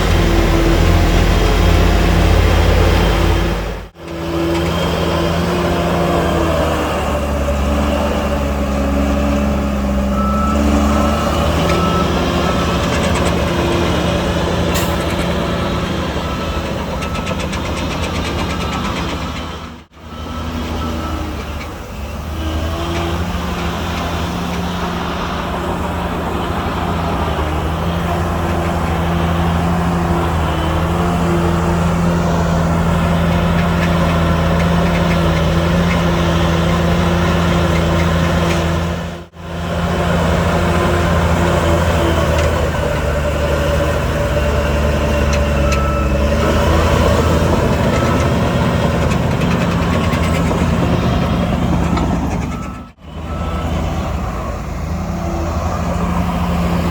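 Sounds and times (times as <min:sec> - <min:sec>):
heavy diesel engine running: 0:00.0 - 0:56.9.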